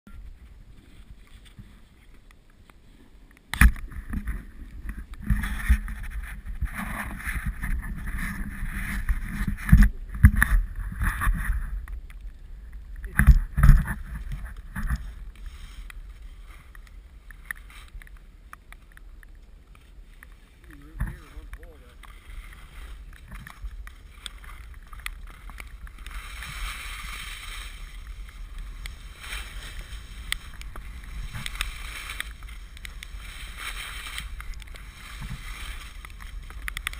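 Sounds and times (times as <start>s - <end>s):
low rumble: 3.8s - 36.9s
skis scraping through wet snow: 3.9s - 11.8s, 13.2s - 18.3s, 19.7s - 36.9s.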